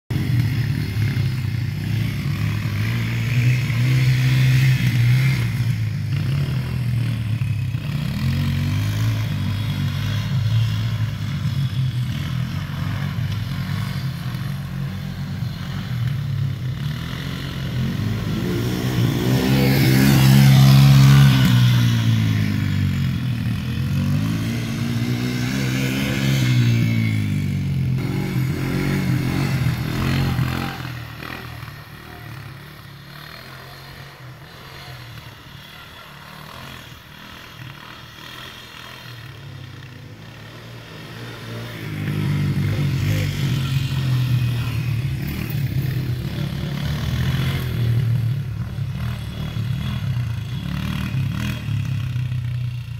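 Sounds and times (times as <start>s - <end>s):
quad bike engine revving: 0.1s - 52.9s.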